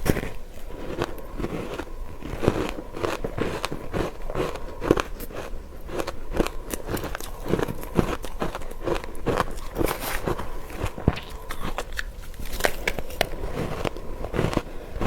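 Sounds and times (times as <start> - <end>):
crunching and chewing ice: 0.0 - 15.0.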